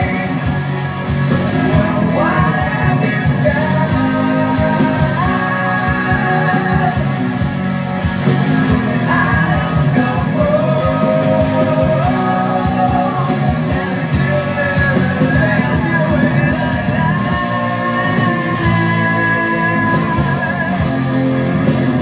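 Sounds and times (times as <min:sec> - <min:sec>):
person singing: 0:00.0 - 0:07.6, 0:08.5 - 0:22.0
drums: 0:00.0 - 0:22.0
overdriven electric guitar riff: 0:00.0 - 0:22.0.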